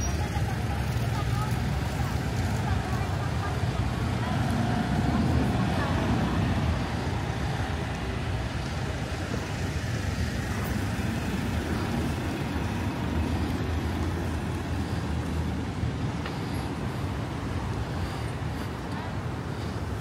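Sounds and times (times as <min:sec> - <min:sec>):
road traffic: 0:00.0 - 0:20.0.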